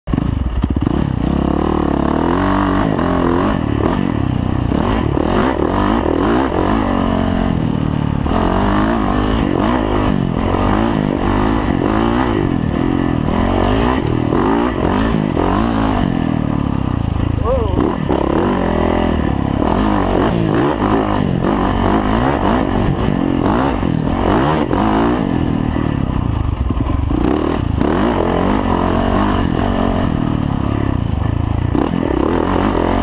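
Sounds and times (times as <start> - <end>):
dirt bike engine revving: 0.1 - 33.0.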